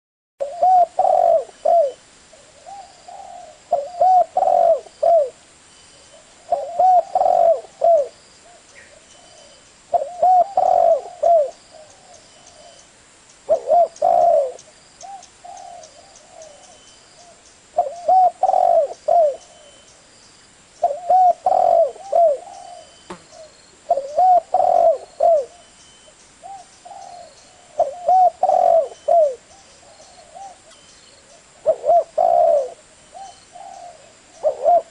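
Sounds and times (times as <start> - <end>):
dove cooing: 0.4 - 5.4, 6.1 - 12.8, 13.5 - 19.8, 20.8 - 25.8, 26.4 - 34.9.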